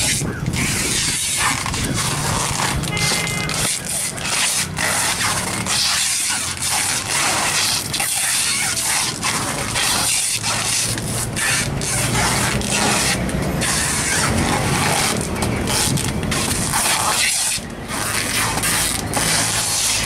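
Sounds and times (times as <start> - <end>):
handling fish and plastic baskets: 0.0 - 20.0.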